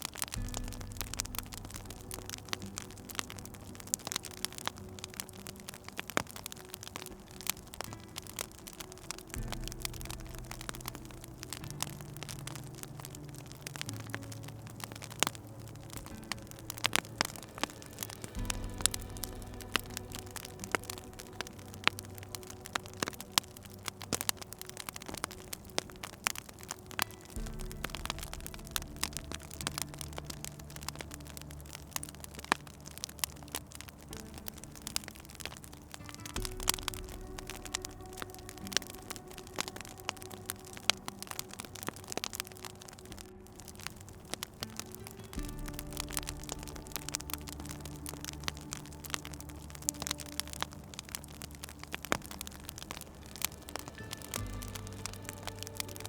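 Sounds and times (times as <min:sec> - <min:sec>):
soft background music: 0:00.0 - 0:56.0
wood fire crackling and popping: 0:00.0 - 0:56.0.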